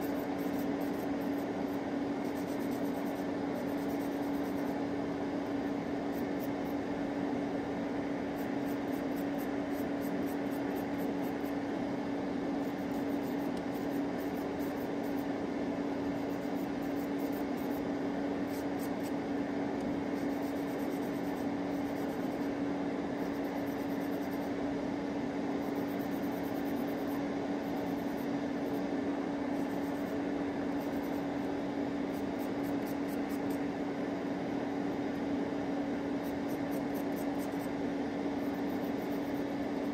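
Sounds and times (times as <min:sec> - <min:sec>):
electric nail drill humming: 0:00.0 - 0:06.9, 0:08.2 - 0:11.7, 0:12.5 - 0:19.2, 0:19.8 - 0:24.6, 0:25.6 - 0:28.9, 0:29.5 - 0:33.6, 0:36.2 - 0:39.9.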